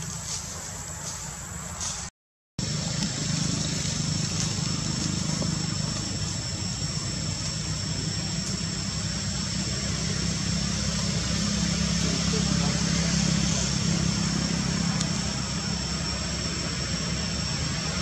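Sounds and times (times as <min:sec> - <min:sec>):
low engine-like hum: 0:00.0 - 0:18.0
thin high whine: 0:00.1 - 0:18.0.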